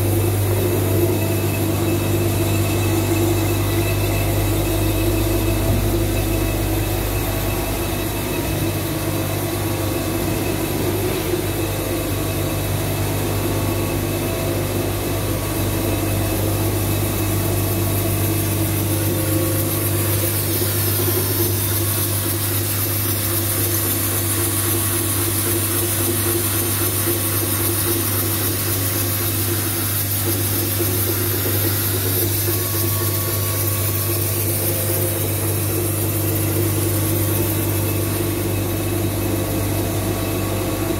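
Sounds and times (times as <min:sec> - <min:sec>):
machine hum: 0:00.0 - 0:40.9.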